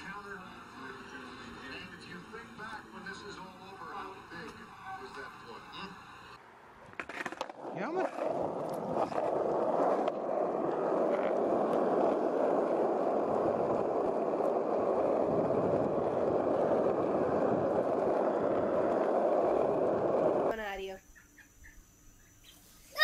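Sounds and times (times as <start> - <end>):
wheels rolling over asphalt: 0.0 - 20.9.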